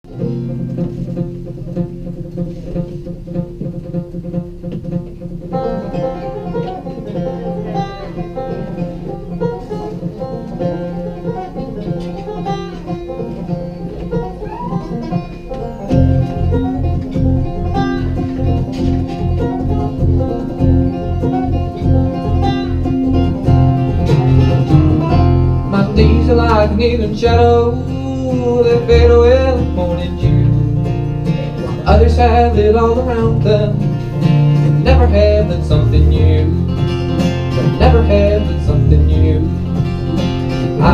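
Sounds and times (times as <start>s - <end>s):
acoustic string band playing: 0.1s - 40.9s
steady low beat: 0.1s - 40.9s.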